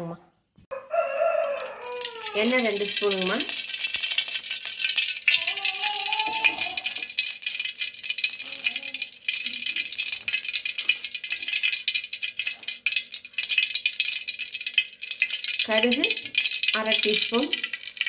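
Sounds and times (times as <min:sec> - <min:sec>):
oil sizzling and crackling: 0:01.4 - 0:18.0.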